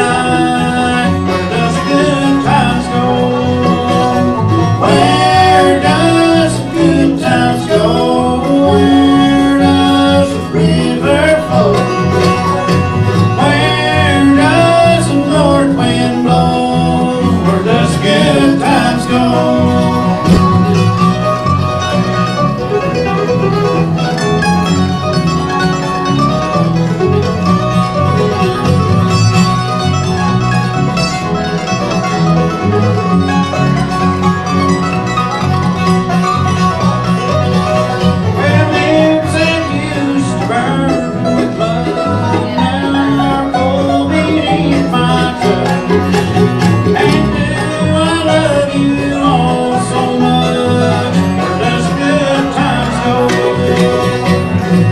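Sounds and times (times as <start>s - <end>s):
country band playing instrumental: 0.0s - 54.9s.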